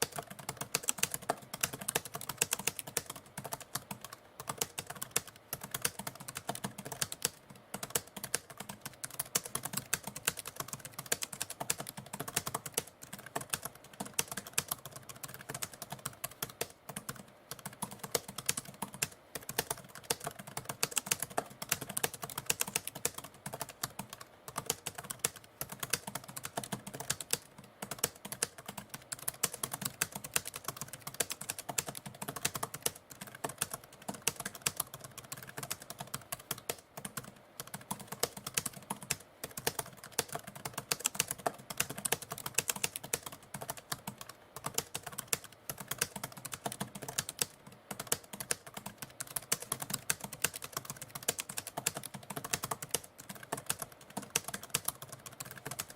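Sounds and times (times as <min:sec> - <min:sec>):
typewriter keys clicking: 0:00.0 - 0:55.9.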